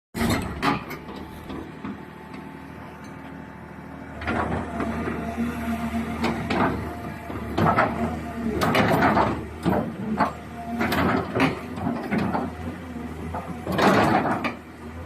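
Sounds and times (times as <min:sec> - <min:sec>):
excavator diesel engine running: 0:00.2 - 0:15.0.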